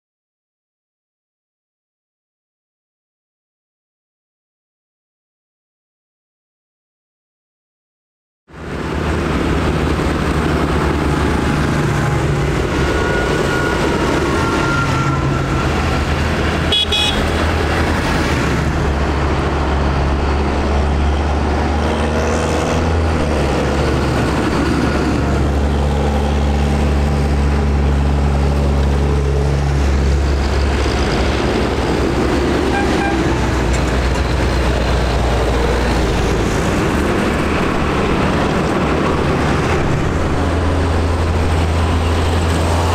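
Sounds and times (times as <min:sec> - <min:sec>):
tractors driving past: 0:08.5 - 0:42.9.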